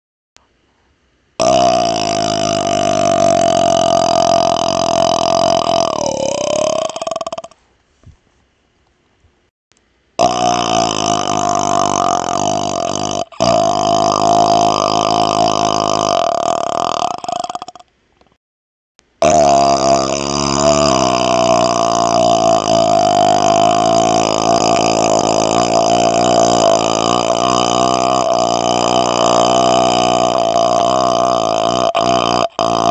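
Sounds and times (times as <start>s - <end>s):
man belching: 1.4s - 7.6s, 10.2s - 17.9s, 19.2s - 32.9s
man burping loudly: 1.4s - 7.6s, 10.2s - 17.9s, 19.2s - 32.9s.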